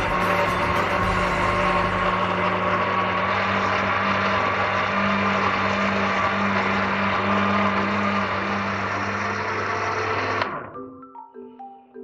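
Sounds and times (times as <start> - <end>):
electric blender grinding: 0.0 - 10.8.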